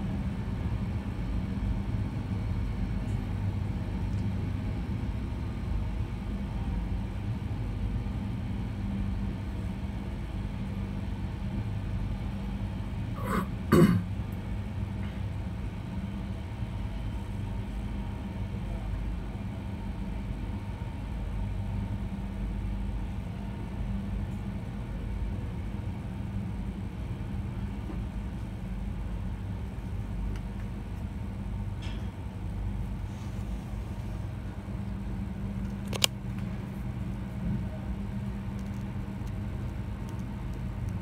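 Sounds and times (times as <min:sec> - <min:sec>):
constant hum: 0:00.0 - 0:41.0
low rumble of rolling carriage: 0:00.0 - 0:41.0.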